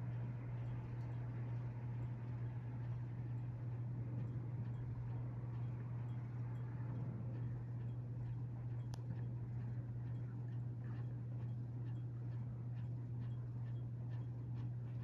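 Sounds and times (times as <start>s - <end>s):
ceiling fan motor humming: 0.0s - 15.0s
faint light ticks: 0.0s - 15.0s.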